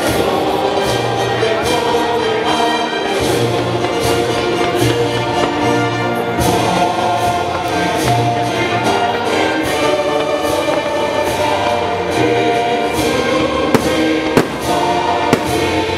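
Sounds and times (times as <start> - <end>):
orchestral music with choir: 0.0 - 15.9.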